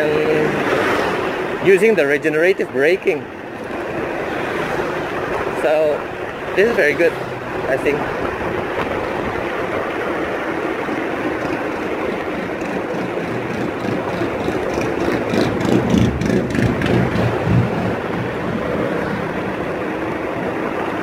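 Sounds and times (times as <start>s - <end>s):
muffled wind and road rushing: 0.0s - 21.0s.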